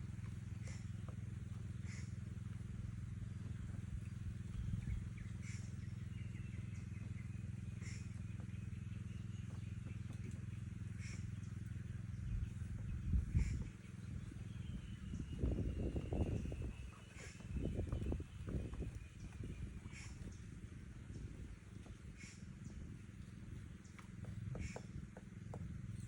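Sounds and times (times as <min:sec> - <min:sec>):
woodpecker calls: 0:00.2 - 0:02.6, 0:03.4 - 0:26.0.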